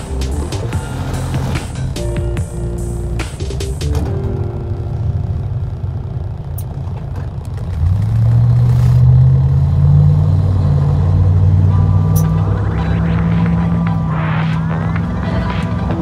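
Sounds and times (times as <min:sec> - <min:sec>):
road rumble: 0:00.0 - 0:16.0
vehicle engine: 0:00.0 - 0:16.0.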